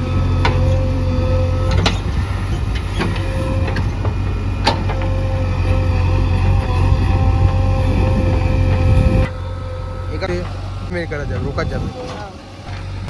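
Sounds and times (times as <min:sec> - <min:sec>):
heavy diesel engine running: 0:00.0 - 0:13.0
thin steady whine: 0:00.0 - 0:13.0.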